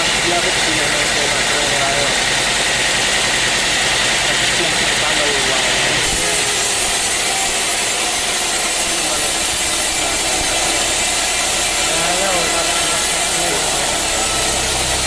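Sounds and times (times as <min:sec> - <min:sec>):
sawmill saw cutting timber: 0:00.0 - 0:15.0.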